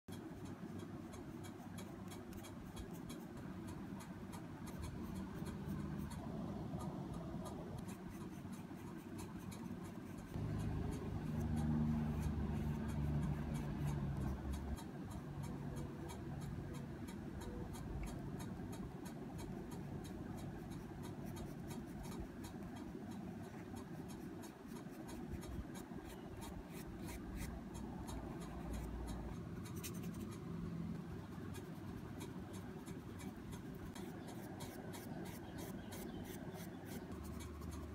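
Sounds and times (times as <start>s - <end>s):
paintbrush scratching on paper: 0.1s - 37.9s.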